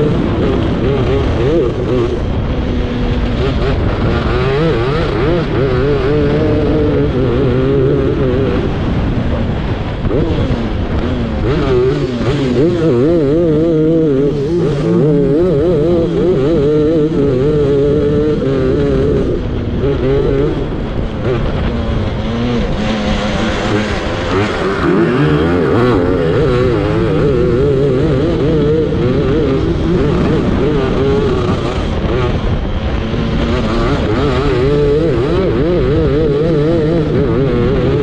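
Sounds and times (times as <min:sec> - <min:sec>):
kart engine revving: 0:00.0 - 0:38.0.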